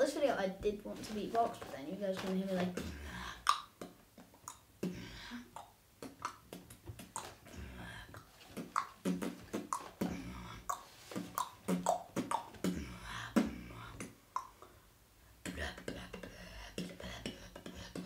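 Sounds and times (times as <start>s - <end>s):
boy beatboxing: 0.0s - 14.8s, 15.4s - 18.0s.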